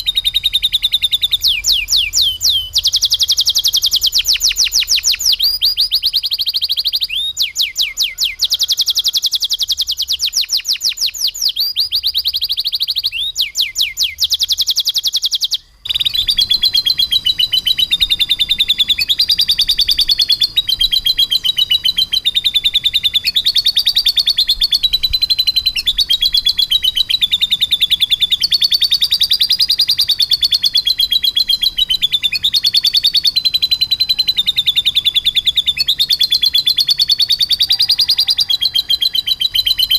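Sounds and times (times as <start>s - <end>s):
canary trilling: 0.0s - 39.9s.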